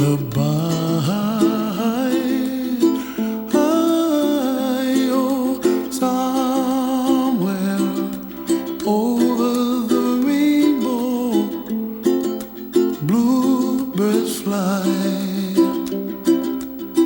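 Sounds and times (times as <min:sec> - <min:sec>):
man humming wordless melody: 0:00.0 - 0:16.9
ukulele: 0:00.0 - 0:17.0.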